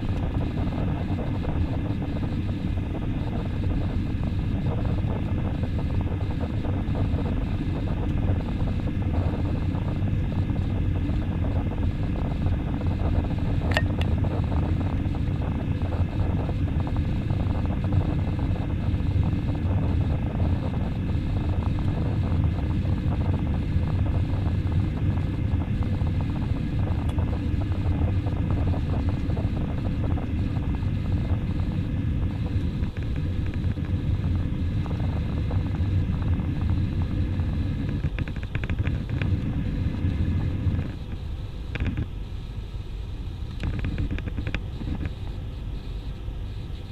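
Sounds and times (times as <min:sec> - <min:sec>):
airplane cabin engine rumble: 0:00.0 - 0:46.9
faint steady whines: 0:00.0 - 0:46.9.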